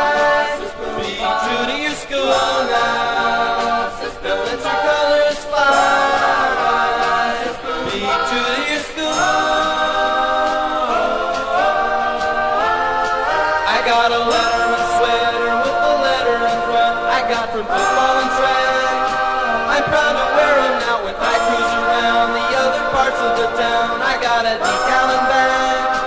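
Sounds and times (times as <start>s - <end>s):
unaccompanied choir singing: 0.0s - 26.0s.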